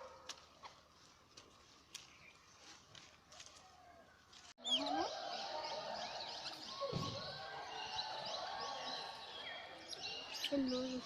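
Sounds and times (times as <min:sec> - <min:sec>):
many birds chirping: 0:01.9 - 0:11.0.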